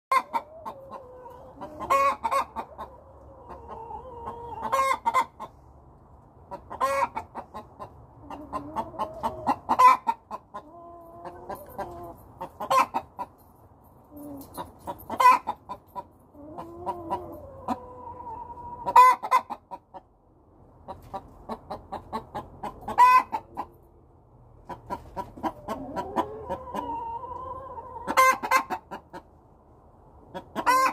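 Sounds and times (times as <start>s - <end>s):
hens clucking: 0.1s - 13.4s, 14.1s - 23.8s, 24.5s - 30.9s.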